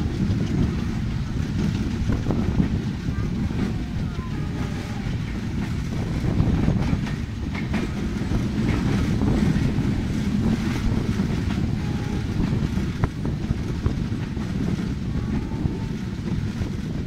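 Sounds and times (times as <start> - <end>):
train wheels rumbling on rails: 0.0 - 17.0
wind on microphone: 0.0 - 17.0.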